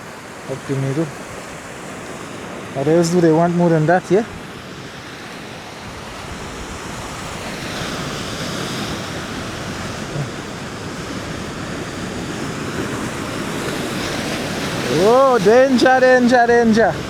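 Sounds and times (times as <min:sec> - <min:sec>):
surf breaking against rocks: 0:00.0 - 0:17.0
wind buffeting microphone: 0:00.0 - 0:17.0.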